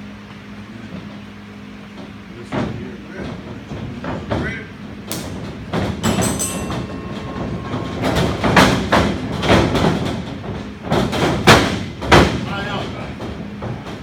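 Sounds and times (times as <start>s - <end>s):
noisy hall background: 0.0s - 14.0s.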